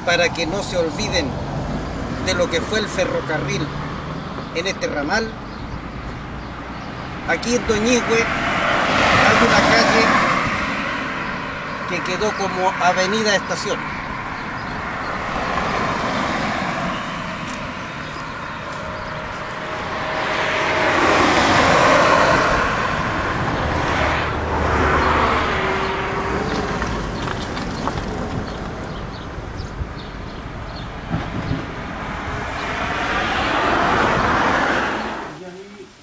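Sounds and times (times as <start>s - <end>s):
cars passing by: 0.0s - 36.0s.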